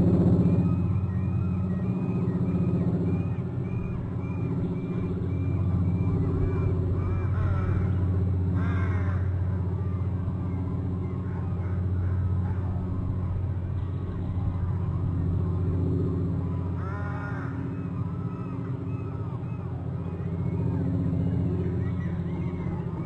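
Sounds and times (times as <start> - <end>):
birds calling: 0.0 - 23.0
low hum: 0.0 - 23.0.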